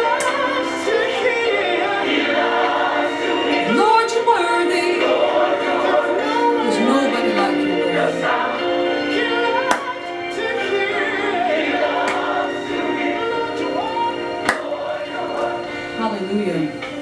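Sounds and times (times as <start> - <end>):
choir singing gospel: 0.0 - 17.0.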